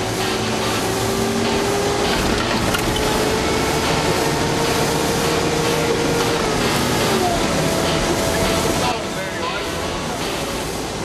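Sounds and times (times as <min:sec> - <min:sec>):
engine and road noise in cabin: 0:00.0 - 0:11.0.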